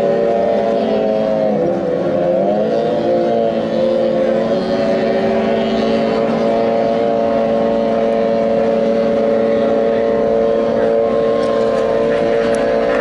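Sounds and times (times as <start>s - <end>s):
outboard motors droning: 0.0s - 13.0s.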